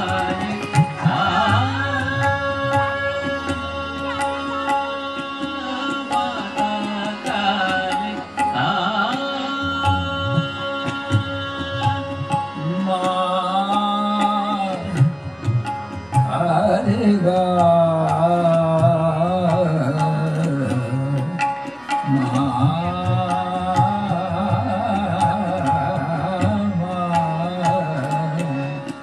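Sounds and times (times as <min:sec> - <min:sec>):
tabla strokes: 0:00.0 - 0:29.0
tanpura and harmonium drone: 0:00.0 - 0:29.0.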